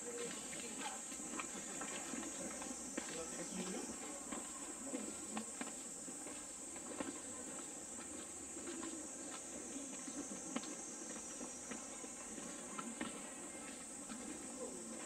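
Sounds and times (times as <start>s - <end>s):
footsteps of people walking: 0.0s - 15.0s
steady high-pitched hiss: 0.0s - 15.0s.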